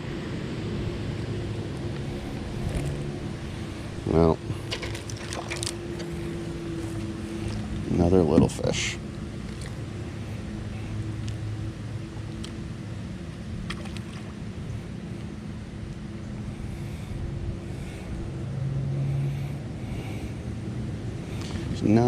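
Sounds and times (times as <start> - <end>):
boat motor humming: 0.0 - 22.0
water noise: 0.0 - 22.0
wind: 0.0 - 22.0.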